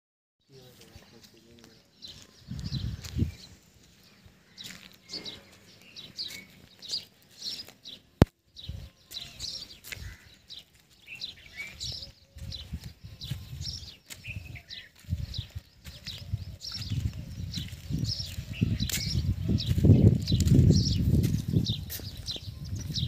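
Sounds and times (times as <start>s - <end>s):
birds chirping: 0.4s - 23.0s.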